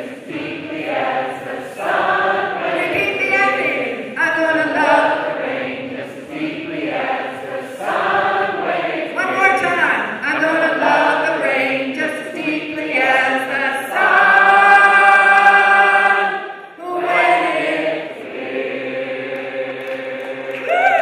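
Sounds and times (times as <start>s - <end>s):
choir holding long chord: 0.0s - 9.6s, 10.5s - 21.0s.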